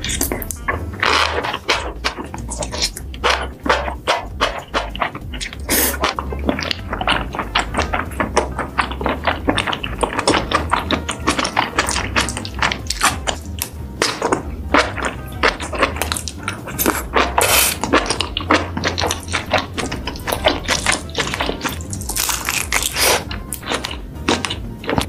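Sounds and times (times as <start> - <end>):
background music: 0.0 - 25.0
lip smacks: 0.0 - 25.0
wet chewing: 0.0 - 25.0.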